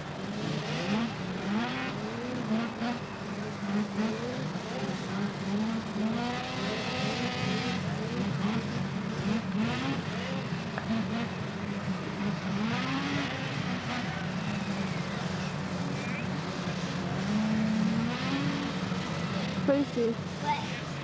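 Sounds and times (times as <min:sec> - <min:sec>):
snowmobile engines accelerating: 0:00.0 - 0:21.0.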